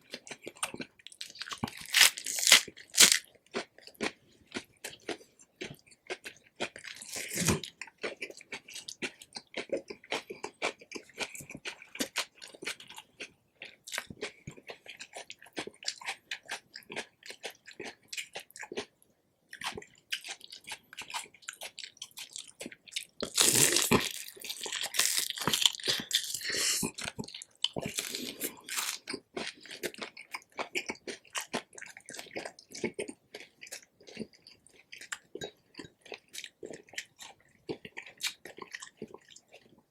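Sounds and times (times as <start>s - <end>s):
crunchy chewing: 0.0s - 18.9s, 19.5s - 39.8s.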